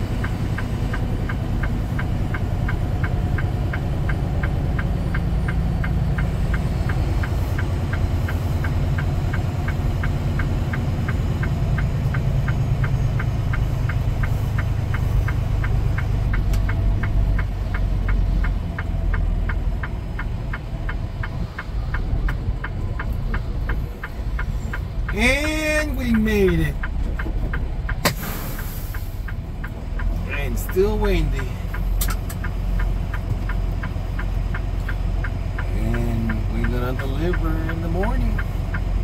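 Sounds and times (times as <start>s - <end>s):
diesel truck engine running: 0.0s - 39.0s
turn signal ticking: 0.0s - 39.0s.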